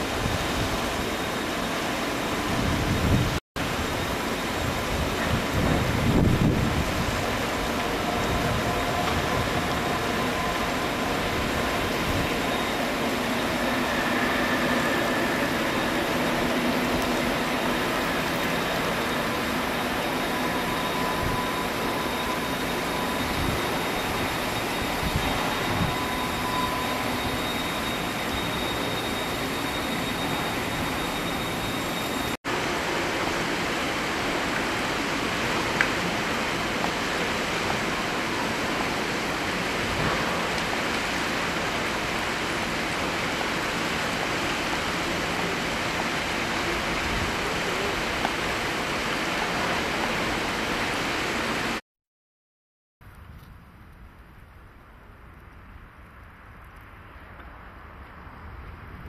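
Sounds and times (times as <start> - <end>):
train wheels rumbling on rails: 0.0 - 51.7.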